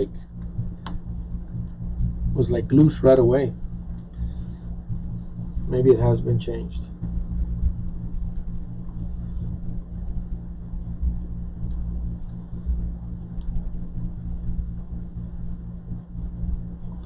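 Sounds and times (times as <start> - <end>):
low machinery hum and rumble: 0.0 - 17.0.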